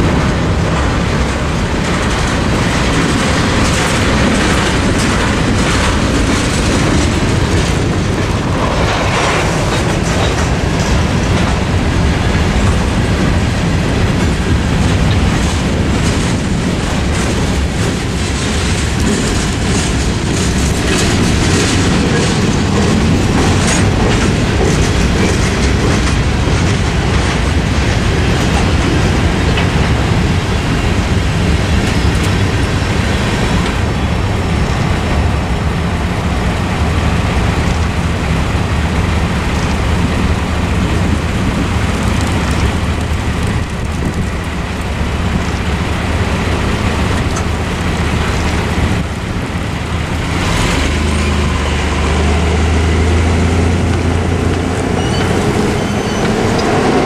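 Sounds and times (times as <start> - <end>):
freight train rolling: 0.0 - 57.0
truck engine rumble: 0.0 - 57.0
trucks and cars idling: 0.0 - 57.0.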